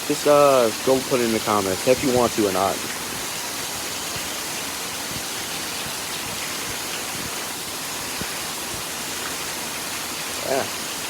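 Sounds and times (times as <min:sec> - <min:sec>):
heavy rain pouring: 0:00.0 - 0:11.0
raindrops tapping: 0:00.0 - 0:11.0.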